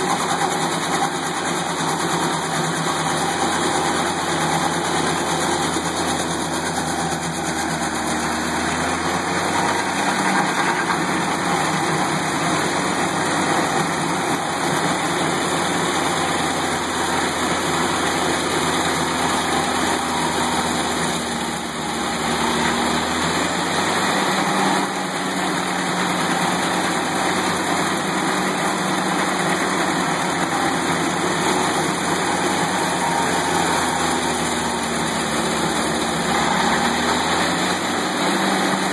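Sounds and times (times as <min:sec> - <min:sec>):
stump grinder engine grinding: 0:00.0 - 0:38.9.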